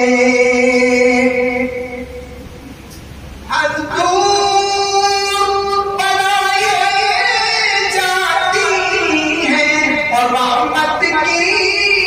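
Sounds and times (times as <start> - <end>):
man chanting melodically: 0.0 - 2.4, 3.4 - 12.0.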